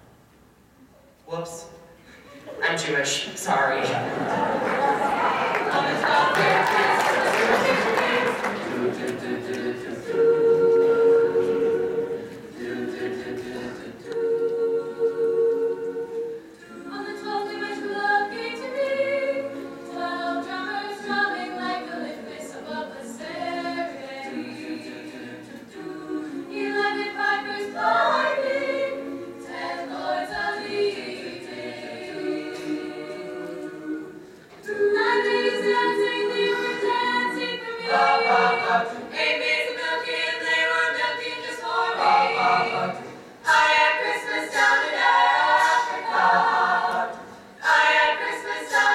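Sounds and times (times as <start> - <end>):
a cappella choir singing in harmony: 3.8 - 48.9.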